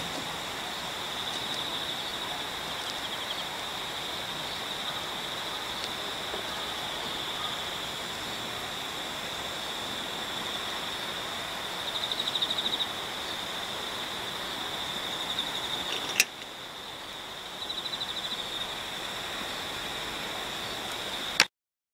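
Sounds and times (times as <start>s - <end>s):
insect trilling: 0.3s - 21.4s.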